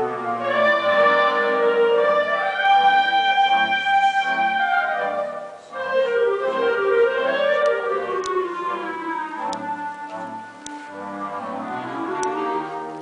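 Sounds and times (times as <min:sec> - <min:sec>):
concert band playing slow piece: 0:00.0 - 0:13.0.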